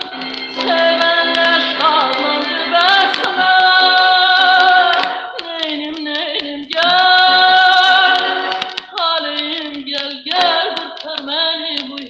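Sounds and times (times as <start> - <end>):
woman singing on gramophone record: 0.0 - 12.0.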